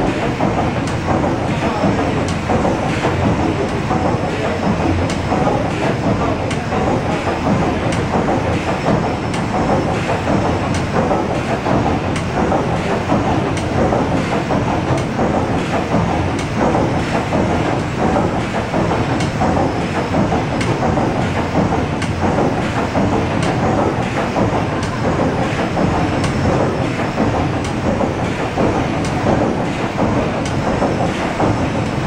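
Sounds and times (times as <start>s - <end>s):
steam engine clattering: 0.0s - 32.0s.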